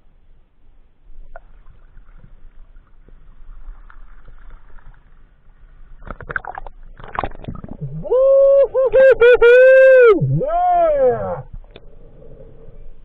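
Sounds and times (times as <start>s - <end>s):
muffled water sloshing: 0.0s - 13.0s.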